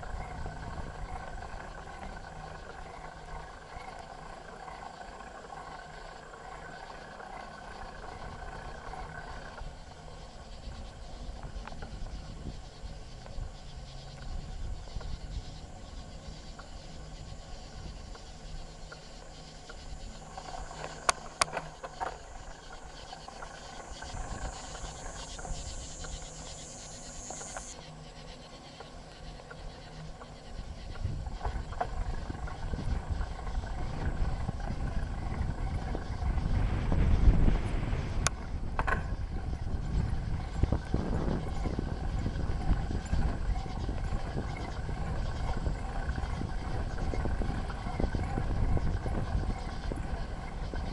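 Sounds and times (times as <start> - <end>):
bike rattles and clicks: 0.0 - 27.8, 28.8 - 50.9
bicycle tyres rumbling on trail: 0.0 - 28.2, 28.9 - 50.9
insects chorus: 0.0 - 50.9.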